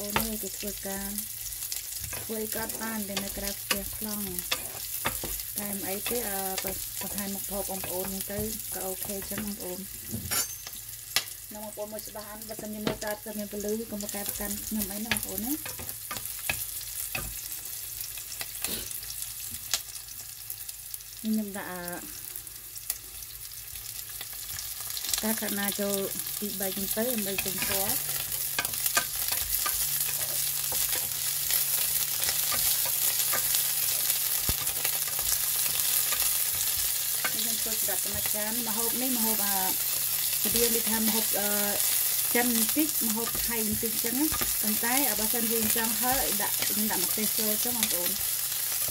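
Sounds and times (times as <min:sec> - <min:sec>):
vegetables sizzling in hot oil: 0:00.0 - 0:48.9.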